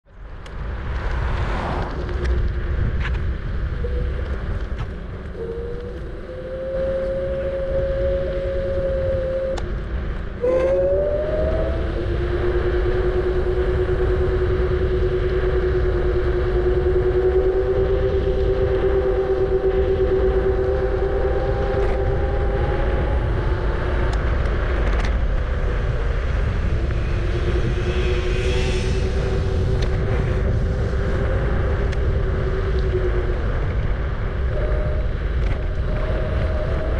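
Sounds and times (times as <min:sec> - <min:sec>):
wind and road rumble: 0:00.0 - 0:36.9
electric scooter motor whine: 0:01.5 - 0:36.9.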